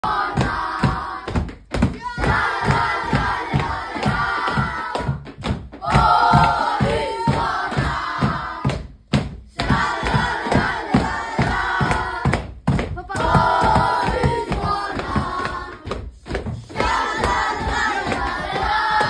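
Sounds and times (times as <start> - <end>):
boys chanting and singing: 0.0 - 19.0
steady drum beat: 0.0 - 19.0.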